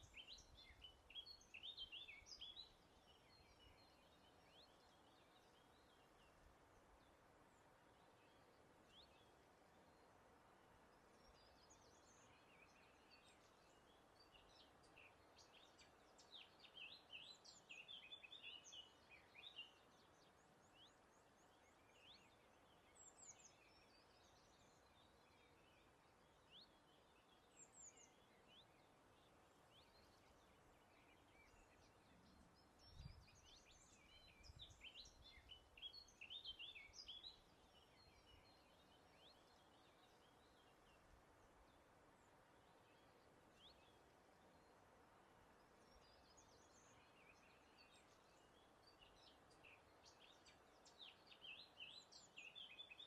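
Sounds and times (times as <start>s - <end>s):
songbird chirping and trilling: 0.0s - 53.0s
steady soft hiss: 0.0s - 53.0s.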